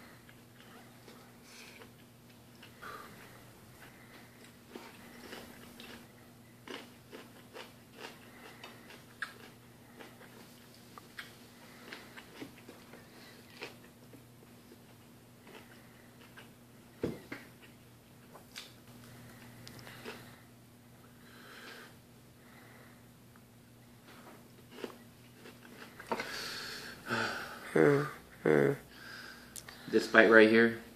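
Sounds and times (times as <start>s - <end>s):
person chewing: 0.2s - 16.6s, 17.2s - 22.0s, 24.0s - 28.0s.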